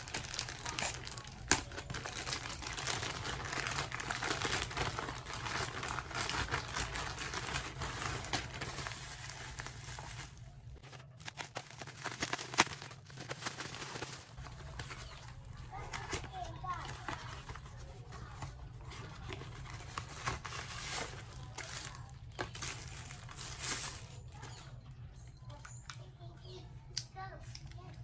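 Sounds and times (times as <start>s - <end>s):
plastic bag and bubble wrap crinkling: 0.0s - 24.9s.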